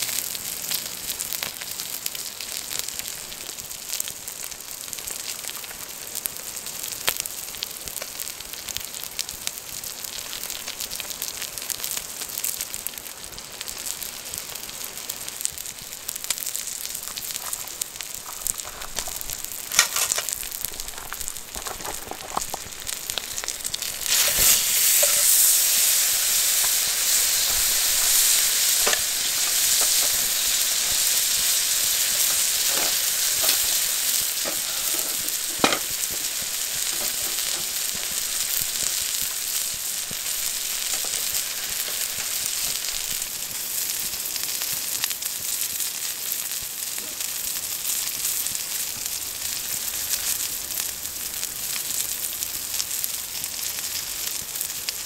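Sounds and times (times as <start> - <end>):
steak sizzling on hot plate: 0.0 - 55.0.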